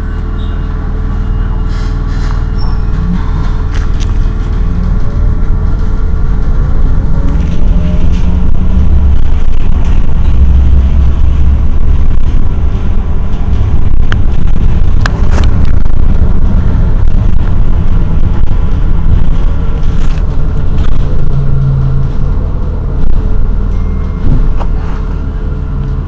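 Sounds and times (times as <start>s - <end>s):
electric bus equipment humming: 0.0s - 26.0s.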